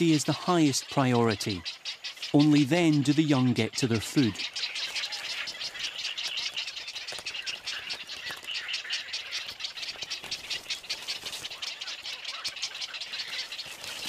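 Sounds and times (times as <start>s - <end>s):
heron chicks clicking chatter: 0.0s - 14.0s.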